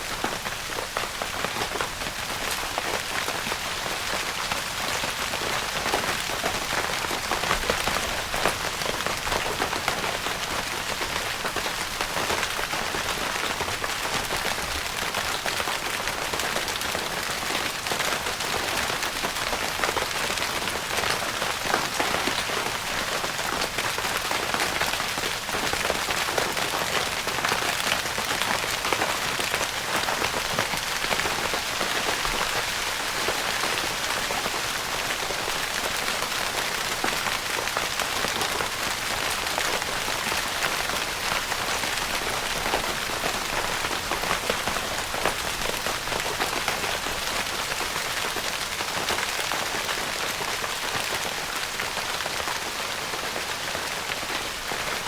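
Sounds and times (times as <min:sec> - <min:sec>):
rain pattering on tent fabric: 0:00.0 - 0:55.0.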